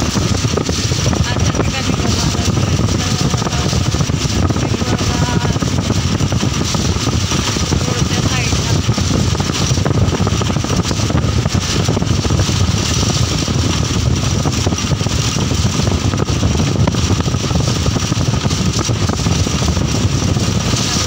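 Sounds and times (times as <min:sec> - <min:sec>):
vehicle road noise rumble: 0:00.0 - 0:21.0
wind buffeting at open window: 0:00.0 - 0:21.0.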